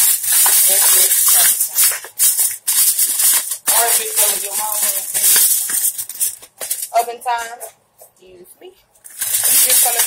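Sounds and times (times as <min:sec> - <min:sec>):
aluminium foil crinkling: 0:00.0 - 0:07.5, 0:09.0 - 0:10.0.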